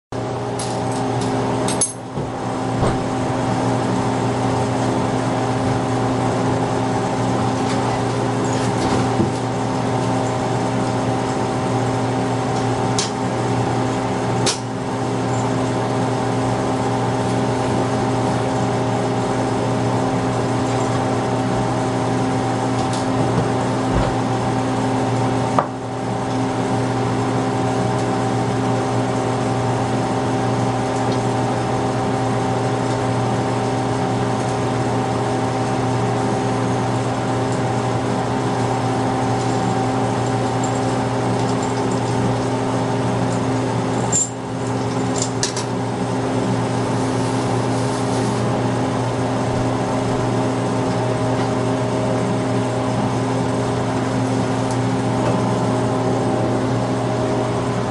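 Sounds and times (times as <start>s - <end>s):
laboratory equipment hum: 0.1s - 57.9s.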